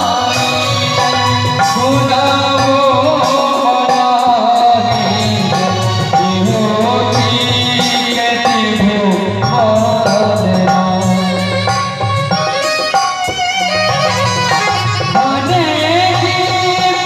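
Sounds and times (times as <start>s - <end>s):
song with drums and bass: 0.0s - 17.0s.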